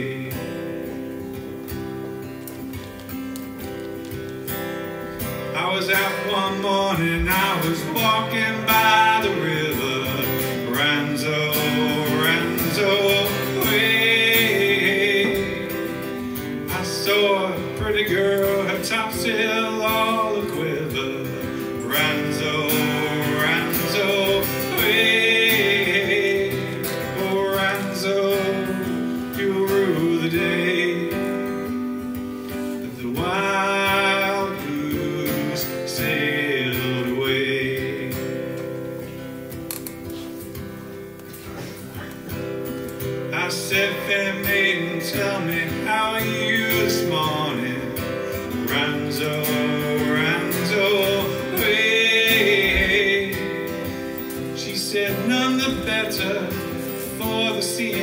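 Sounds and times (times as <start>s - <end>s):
man singing: 0.0s - 1.3s, 5.2s - 39.2s, 43.0s - 58.0s
acoustic guitar strumming: 0.0s - 58.0s.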